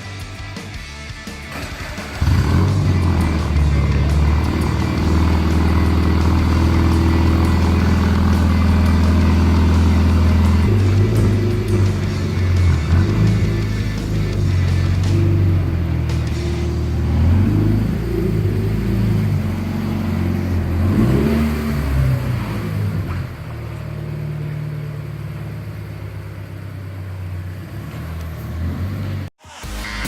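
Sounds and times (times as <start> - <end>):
car engine revving: 1.5 - 29.3.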